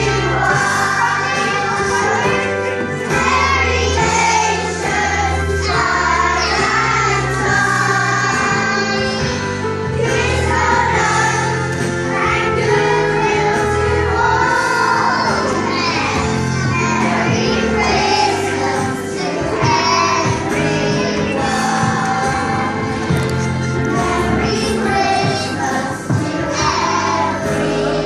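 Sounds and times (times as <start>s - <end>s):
children singing together: 0.0s - 28.0s.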